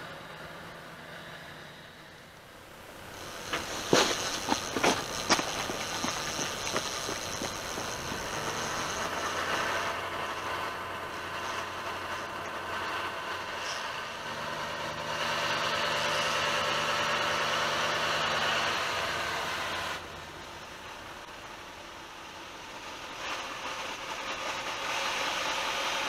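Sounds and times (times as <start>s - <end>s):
engine idling: 1.6s - 26.0s.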